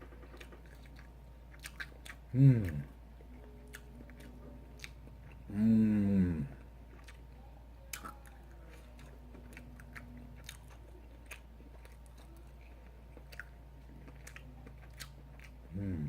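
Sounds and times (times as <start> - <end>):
person chewing food: 0.1 - 16.0.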